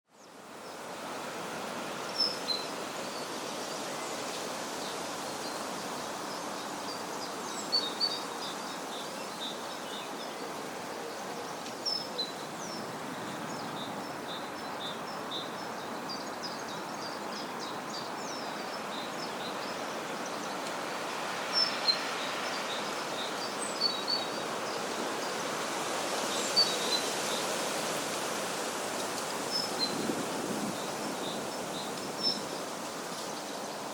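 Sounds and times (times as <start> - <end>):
small birds chirping: 2.0 - 27.7, 29.0 - 33.9.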